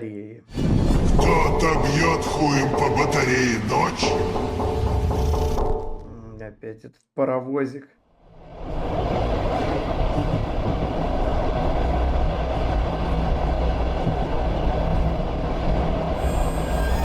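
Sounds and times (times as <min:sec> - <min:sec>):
train rumbling past: 0:00.5 - 0:06.2, 0:08.2 - 0:17.0.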